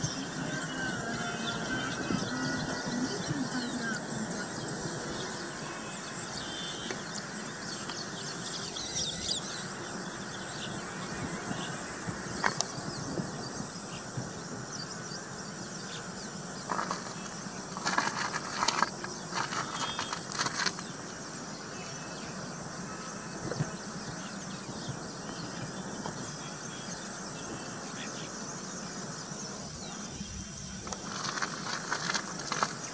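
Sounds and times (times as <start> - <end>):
birds chattering: 0.0 - 32.9
faint high insect drone: 0.0 - 32.9.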